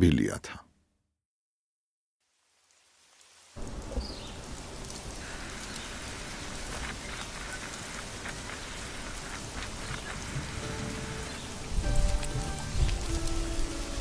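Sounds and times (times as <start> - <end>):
rain on hard surfaces: 2.2 - 14.0
loud water drips: 2.5 - 14.0.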